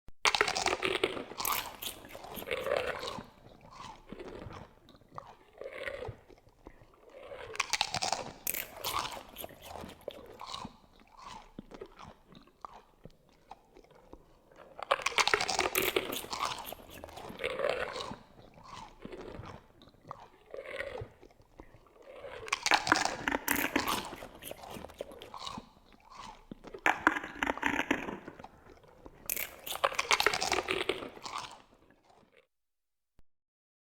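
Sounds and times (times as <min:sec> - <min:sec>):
wet chewing and crunching bones: 0:00.2 - 0:32.5
quiet gnawing: 0:00.5 - 0:32.4.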